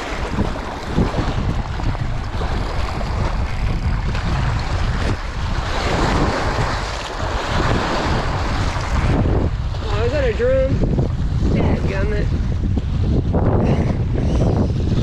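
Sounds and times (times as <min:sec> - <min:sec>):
lake waves: 0:00.0 - 0:15.0
wind buffeting microphone: 0:00.0 - 0:15.0.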